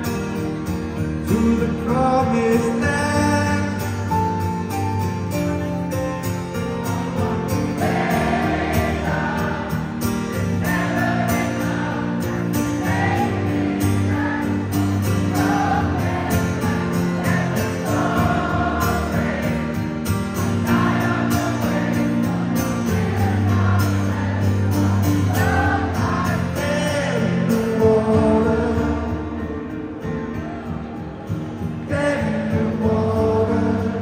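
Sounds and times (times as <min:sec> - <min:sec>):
acoustic guitar strumming: 0:00.0 - 0:34.0
audience singing along: 0:06.2 - 0:34.0.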